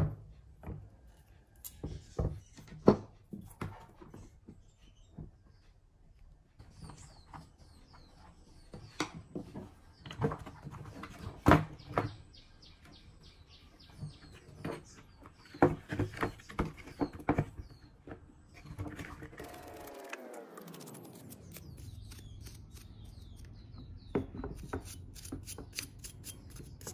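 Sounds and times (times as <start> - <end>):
birds chirping: 1.8 - 26.9.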